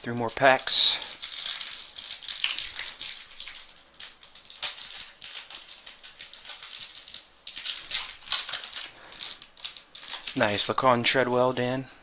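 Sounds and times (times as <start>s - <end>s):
card pack wrappers crinkling: 0.0s - 11.7s.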